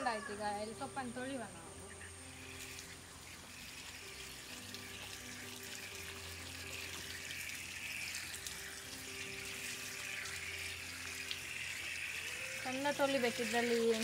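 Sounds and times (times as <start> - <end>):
water running from tap: 2.4 - 14.0
water splashing on leaves: 2.6 - 14.0.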